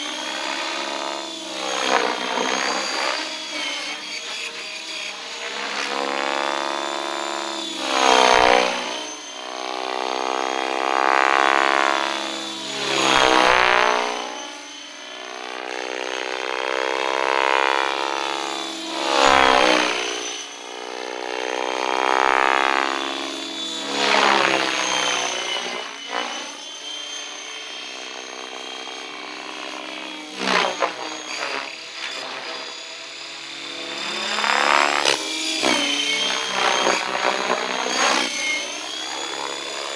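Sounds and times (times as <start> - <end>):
motor and gear whine: 0.0 - 39.9
rc helicopter rotor whooshing: 0.0 - 39.9.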